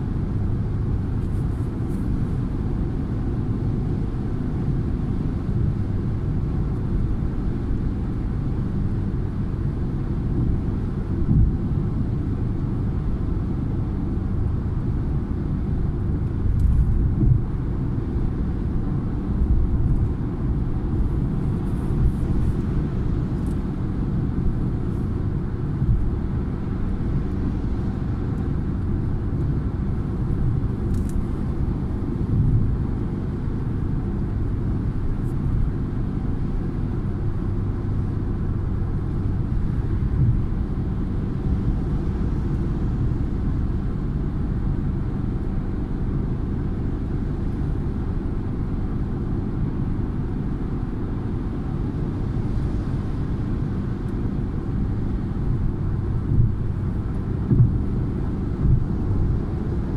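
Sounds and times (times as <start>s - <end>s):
car cabin road and engine rumble: 0.0s - 59.9s.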